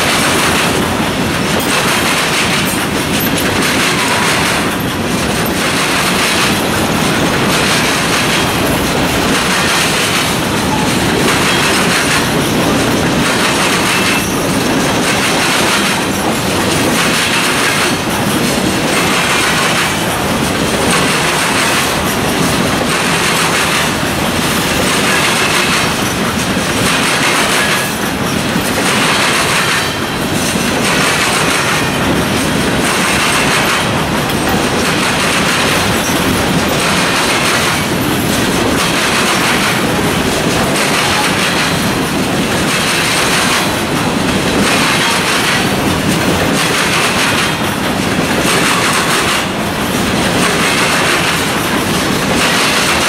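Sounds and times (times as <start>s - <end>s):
freight train wheels rumbling: 0.0s - 53.0s
train wheels clickety-clack: 0.0s - 53.0s.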